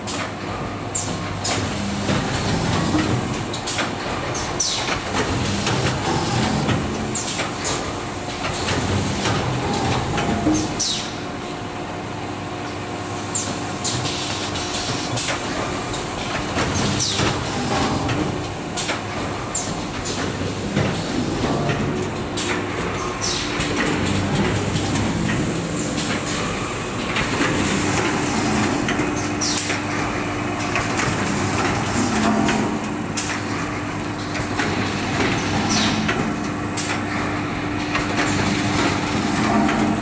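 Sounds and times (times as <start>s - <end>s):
machine rattling and humming: 0.0s - 40.0s.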